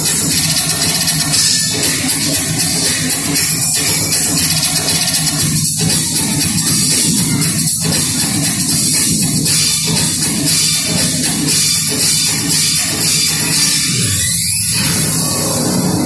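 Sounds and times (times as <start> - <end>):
loud dance music with drums: 0.0 - 16.0.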